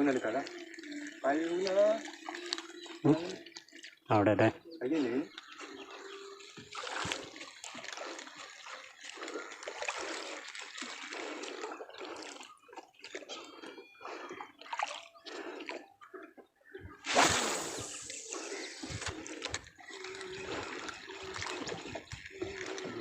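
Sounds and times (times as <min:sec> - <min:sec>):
water splashing around boat: 0:00.0 - 0:04.1, 0:05.2 - 0:23.0.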